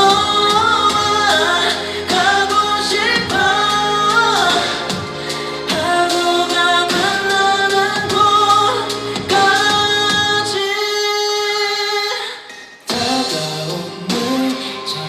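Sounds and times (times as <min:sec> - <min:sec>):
live pop-rock band: 0:00.0 - 0:15.0
man singing: 0:00.0 - 0:15.0.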